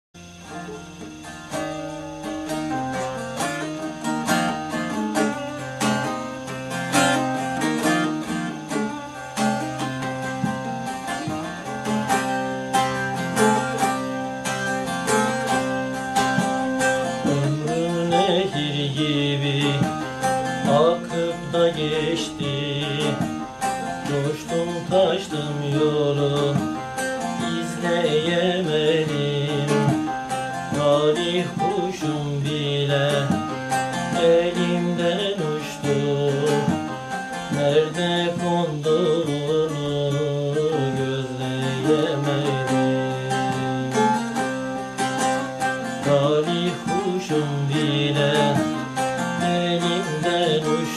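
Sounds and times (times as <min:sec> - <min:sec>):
plucked long-necked lute: 0:00.2 - 0:50.9
man singing: 0:01.5 - 0:50.9.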